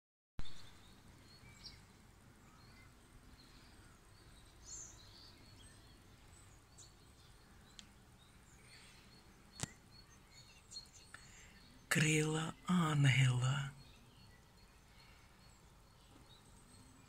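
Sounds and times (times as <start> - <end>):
distant bird chirps: 0.4 - 17.0.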